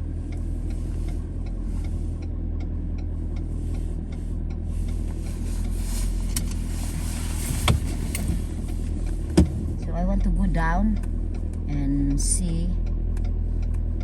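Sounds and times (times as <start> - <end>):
car engine and road hum: 0.0 - 14.0
light regular ticking: 0.0 - 14.0.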